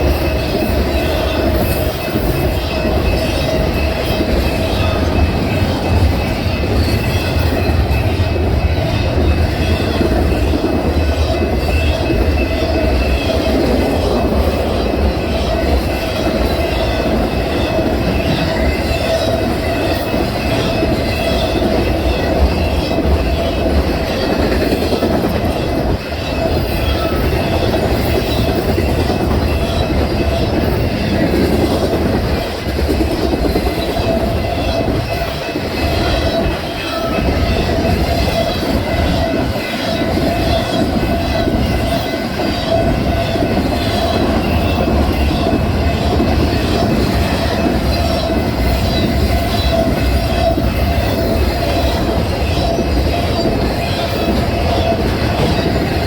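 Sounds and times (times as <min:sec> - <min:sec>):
railroad cars clattering: 0:00.0 - 0:56.0.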